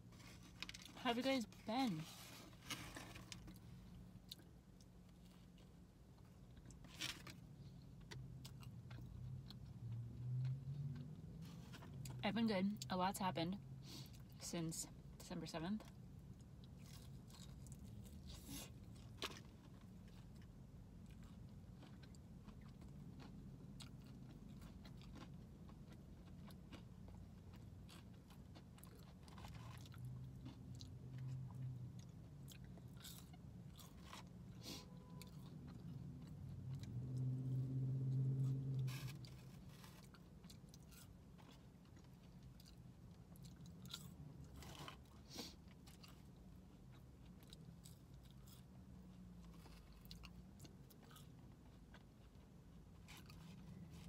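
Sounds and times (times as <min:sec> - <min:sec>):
chewing and biting crunchy food: 0:02.4 - 0:12.2, 0:15.8 - 0:54.0.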